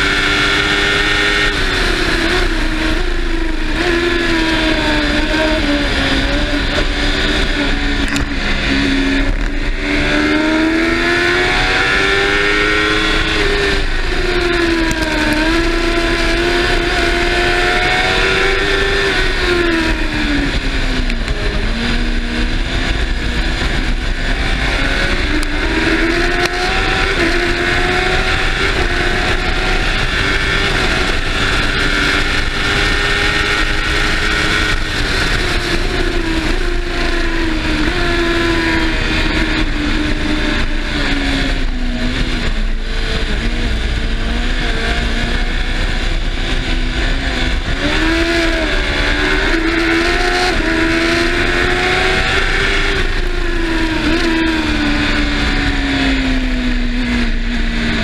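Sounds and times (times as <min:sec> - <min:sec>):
engine at high revs: 0:00.0 - 0:58.0.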